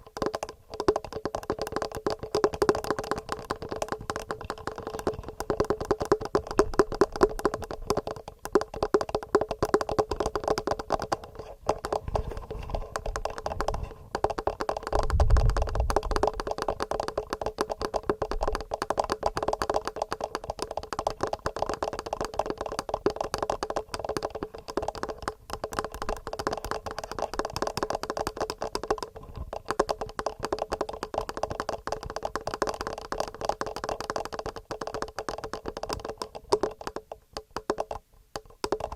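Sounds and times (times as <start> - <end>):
fingernails tapping on microphone: 0.0 - 38.9.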